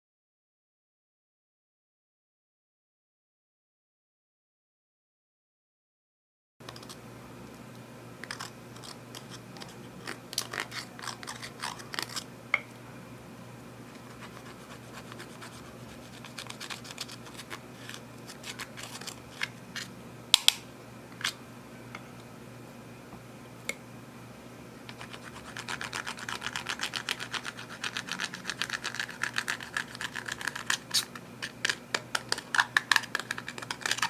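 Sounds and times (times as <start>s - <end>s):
low steady hum: 6.6s - 34.0s.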